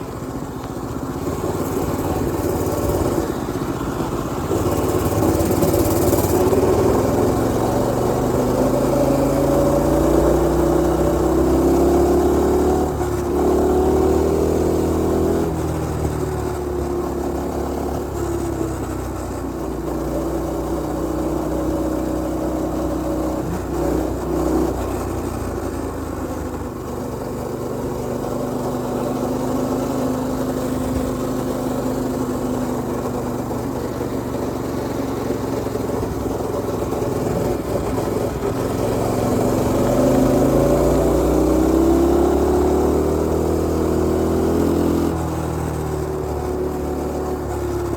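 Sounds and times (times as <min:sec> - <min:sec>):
mini bike engine revving: 0:00.0 - 0:47.9.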